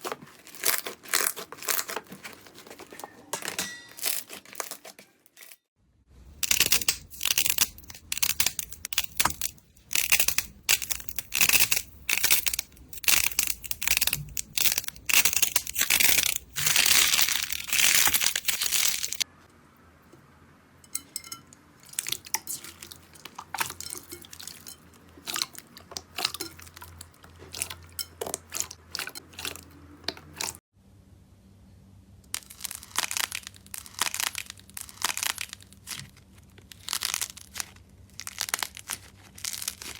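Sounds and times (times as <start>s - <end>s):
crunchy slime crackling: 0.0s - 3.0s, 6.2s - 19.3s, 21.8s - 30.6s, 32.3s - 39.9s.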